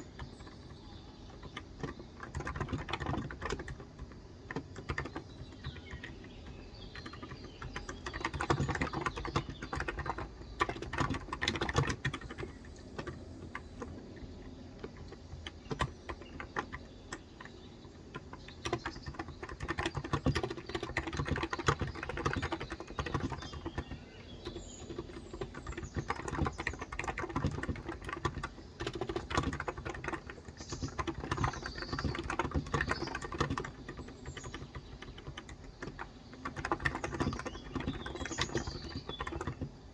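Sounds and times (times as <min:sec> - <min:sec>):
soft keyboard keystrokes: 0:00.0 - 0:39.9.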